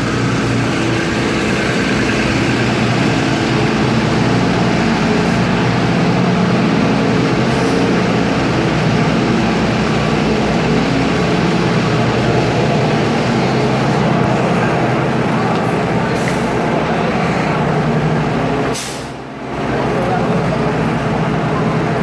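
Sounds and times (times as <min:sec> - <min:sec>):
bus engine humming: 0:00.0 - 0:22.0.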